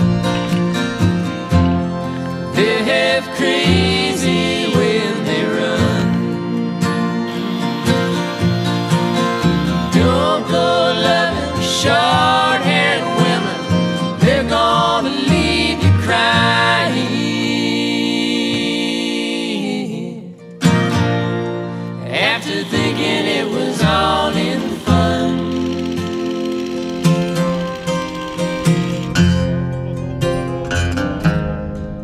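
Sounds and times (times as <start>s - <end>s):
song with guitar and singing: 1.2s - 28.0s.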